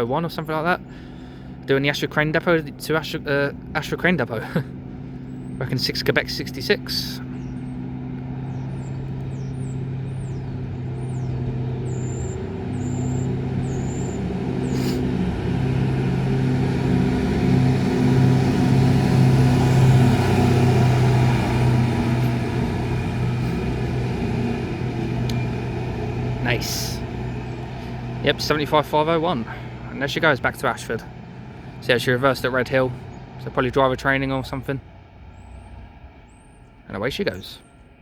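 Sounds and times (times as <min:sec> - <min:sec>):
diesel engine humming: 0:00.0 - 0:38.0.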